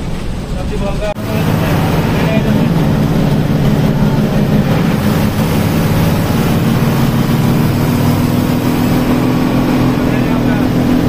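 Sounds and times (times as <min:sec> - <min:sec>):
bus diesel engine: 0:00.0 - 0:11.0
road noise: 0:00.0 - 0:11.0.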